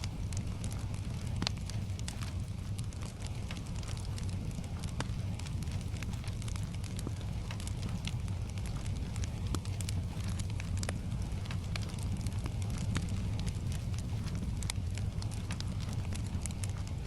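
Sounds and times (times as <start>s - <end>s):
gentle rain: 0.0s - 17.0s
wood fire crackling and popping: 0.0s - 17.0s.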